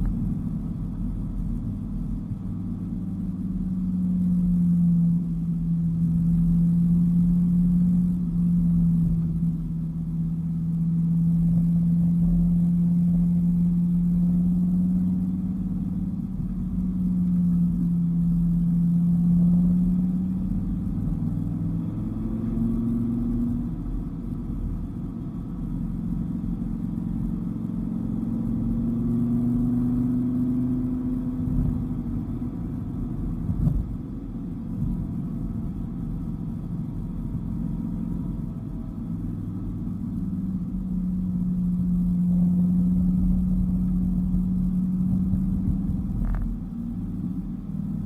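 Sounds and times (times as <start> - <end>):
car engine driving: 0.0 - 48.0
road rumble: 0.0 - 48.0.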